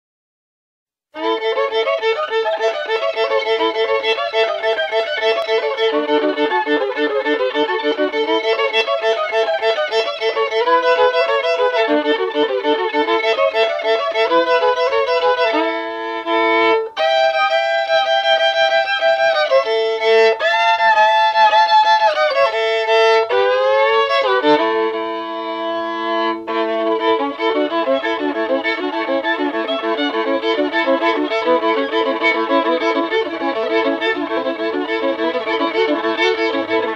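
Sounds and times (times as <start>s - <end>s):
solo fiddle tune: 1.2s - 36.9s.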